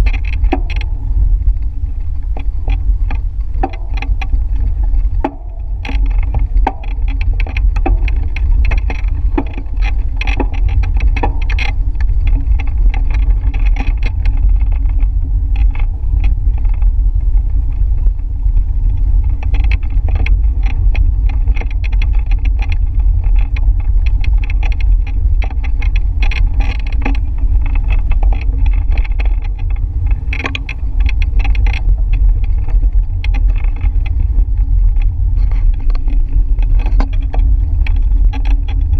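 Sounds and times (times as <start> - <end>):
bicycle rattles and clicks: 0.0 - 38.9
wind buffeting microphone: 0.0 - 38.9.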